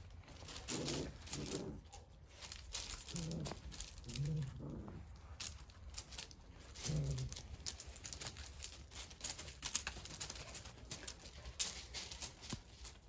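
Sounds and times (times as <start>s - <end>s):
claws and paws clicking on paving: 0.0s - 13.0s
gravel shifting underfoot: 0.0s - 13.0s.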